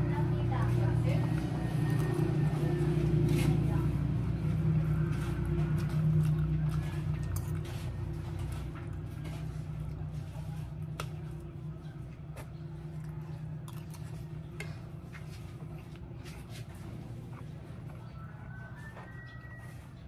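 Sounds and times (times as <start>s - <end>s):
low hum: 0.0s - 19.4s.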